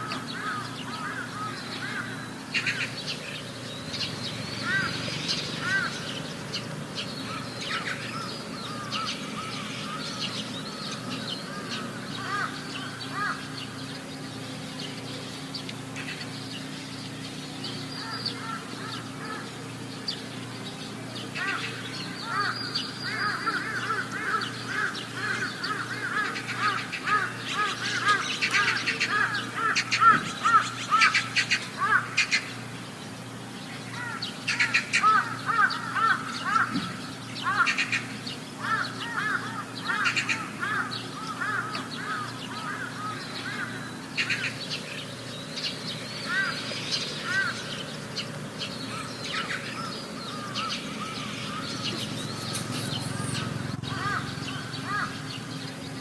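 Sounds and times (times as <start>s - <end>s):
birds chirping: 0.0s - 56.0s
steady low hum: 0.0s - 56.0s.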